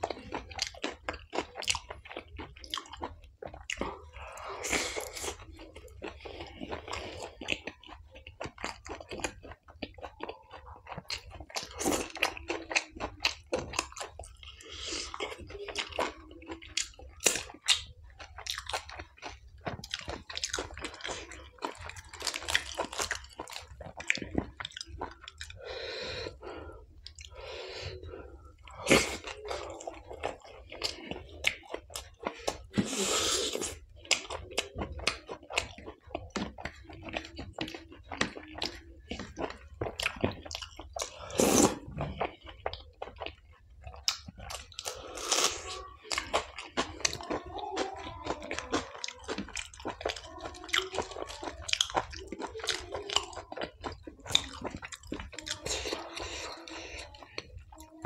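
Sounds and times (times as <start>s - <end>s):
man chewing food: 0.0s - 58.0s.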